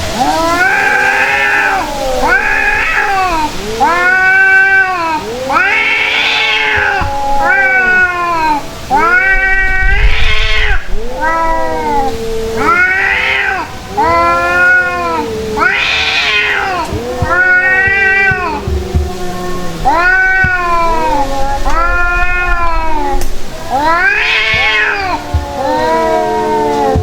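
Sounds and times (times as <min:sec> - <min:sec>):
cats yowling: 0:00.0 - 0:27.0.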